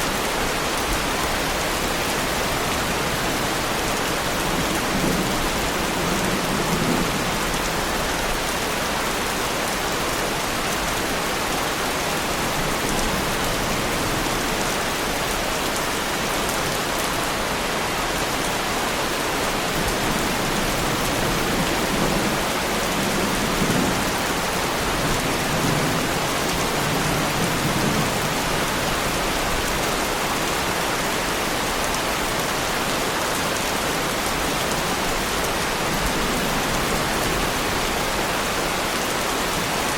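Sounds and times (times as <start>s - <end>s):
heavy rain on a car: 0.1s - 39.9s.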